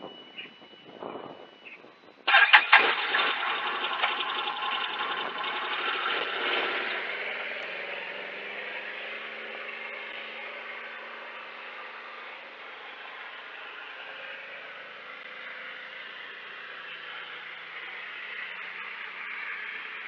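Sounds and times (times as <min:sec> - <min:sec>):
engine running with rattling pulse: 0:02.3 - 0:20.0.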